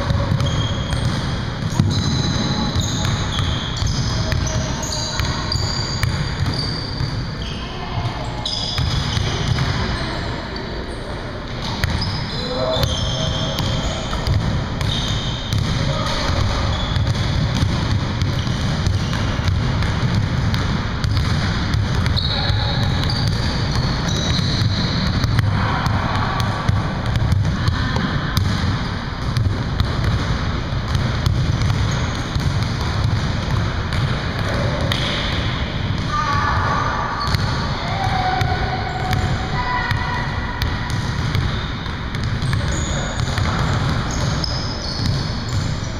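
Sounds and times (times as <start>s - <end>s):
basketballs bouncing on wooden floor: 0.0s - 7.3s, 8.0s - 10.1s, 11.6s - 45.9s.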